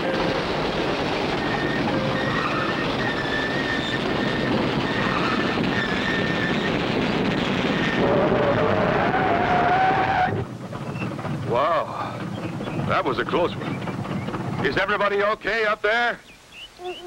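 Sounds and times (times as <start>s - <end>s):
wheels squealing: 0.0s - 15.2s, 16.6s - 17.0s
bus rattling and rumbling: 0.0s - 15.7s.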